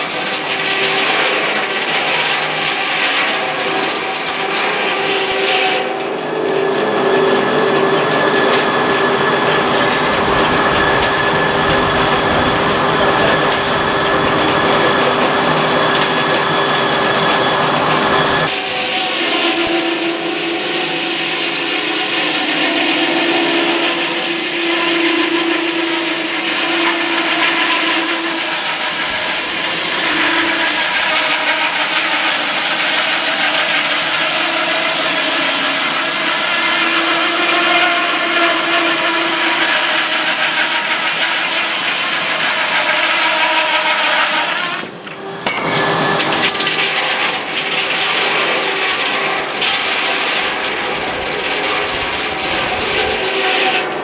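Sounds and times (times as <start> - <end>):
saw blade cutting log: 0.0 - 6.0, 7.7 - 54.0
sawmill machine hum: 0.0 - 54.0.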